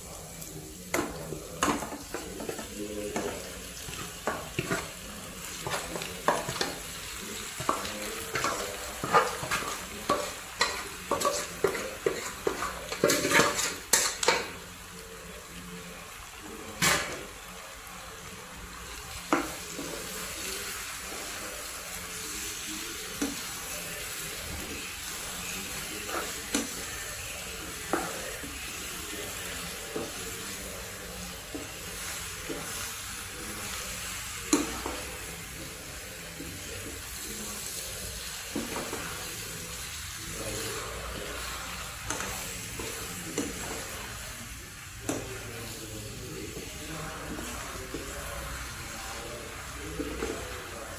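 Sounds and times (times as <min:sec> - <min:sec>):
fish and onions sizzling: 0:00.0 - 0:50.9.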